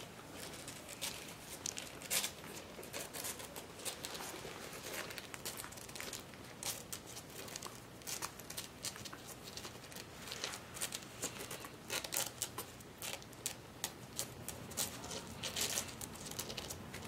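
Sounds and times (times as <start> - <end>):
puppies rustling and scratching: 0.0 - 17.0.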